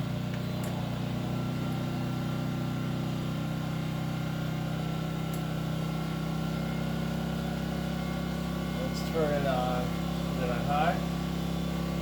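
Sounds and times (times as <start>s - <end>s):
generator engine hum: 0.0s - 12.0s.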